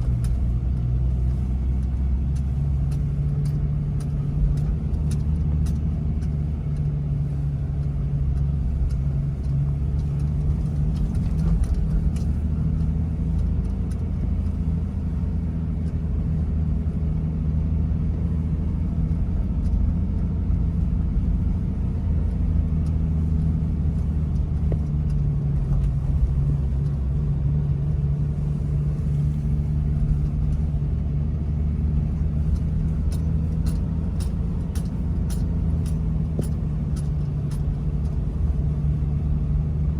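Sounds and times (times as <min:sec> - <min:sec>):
car engine low drone: 0:00.0 - 0:39.9.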